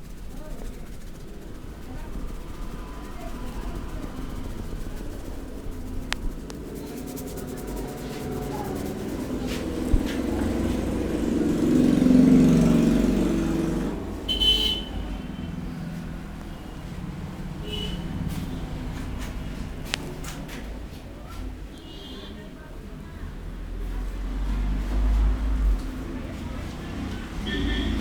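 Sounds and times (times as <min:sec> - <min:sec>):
vehicle passing rumble: 0:00.0 - 0:28.0.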